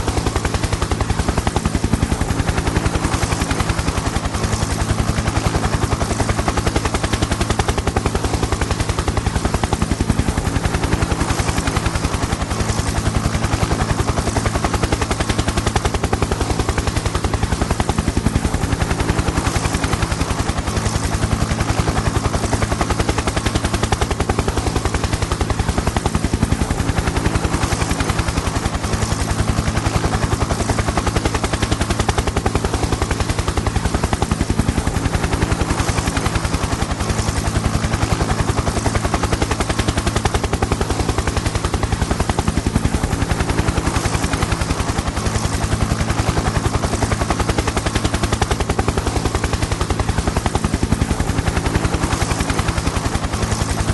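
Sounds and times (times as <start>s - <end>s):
helicopter rotor blades chopping: 0.0s - 53.9s
helicopter turbine drone: 0.0s - 53.9s.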